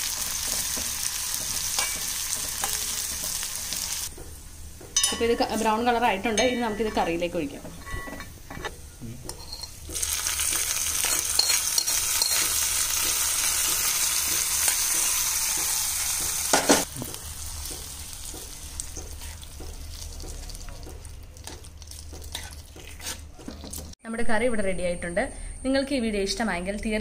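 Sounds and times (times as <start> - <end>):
hot oil sizzling: 0.0 - 7.5, 8.8 - 23.2.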